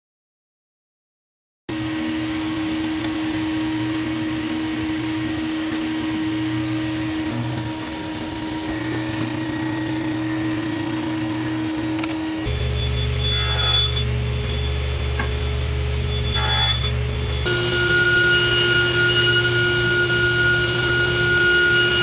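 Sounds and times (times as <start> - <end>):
woodworking machine running: 1.7 - 22.0.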